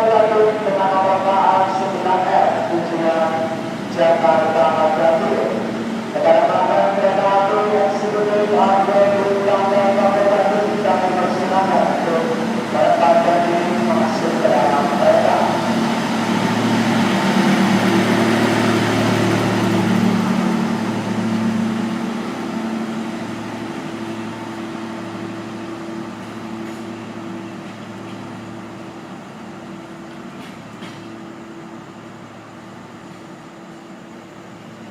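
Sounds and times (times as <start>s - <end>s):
diesel train engine drone: 0.0s - 34.9s
train wheels on rails: 1.7s - 34.9s.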